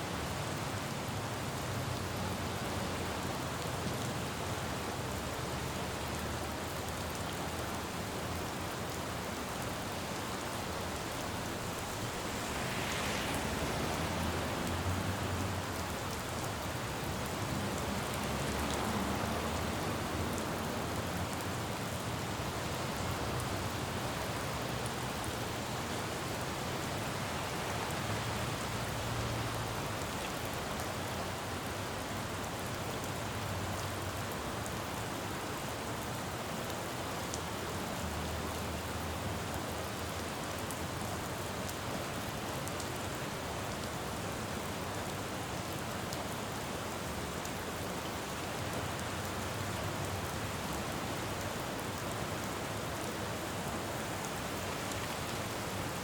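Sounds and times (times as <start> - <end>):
steady rain falling: 0.0 - 56.0
vehicles passing on wet road: 0.1 - 56.0.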